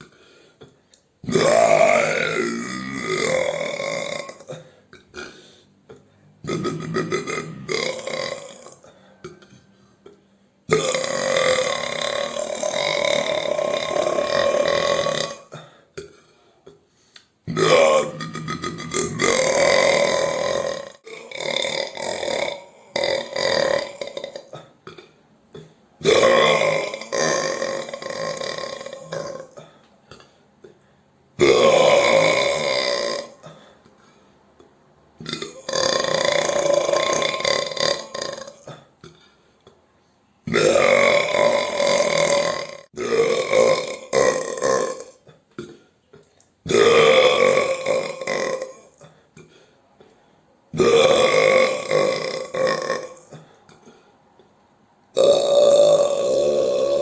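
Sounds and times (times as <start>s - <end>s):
person burping: 1.2s - 16.9s, 17.5s - 30.8s, 31.4s - 33.8s, 35.2s - 39.4s, 40.4s - 49.7s, 50.7s - 54.1s, 55.1s - 57.0s.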